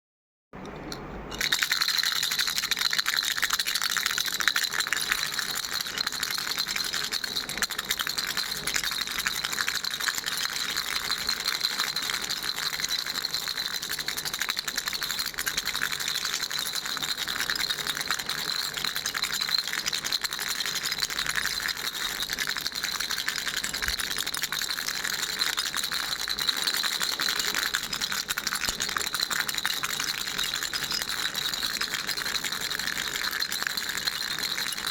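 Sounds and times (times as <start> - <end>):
baby rattle shaken: 0.6 - 34.9.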